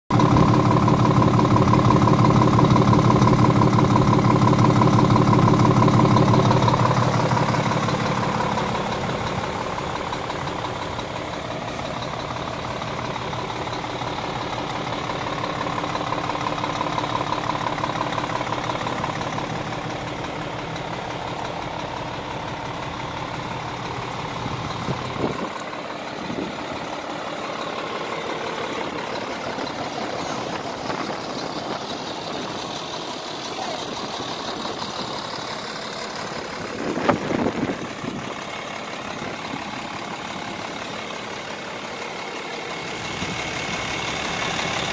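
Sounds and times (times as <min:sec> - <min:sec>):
truck diesel engine idling: 0:00.1 - 0:44.9.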